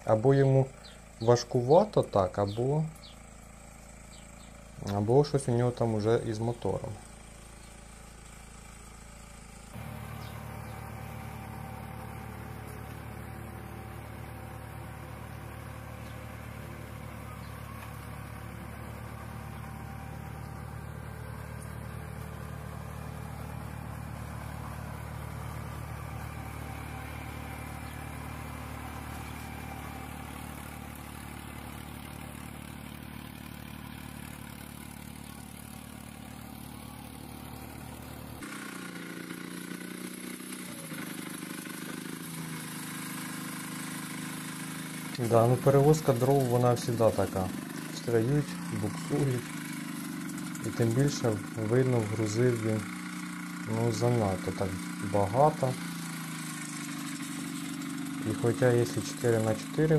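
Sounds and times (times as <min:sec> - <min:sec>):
small tractor engine running: 0:00.0 - 0:59.9.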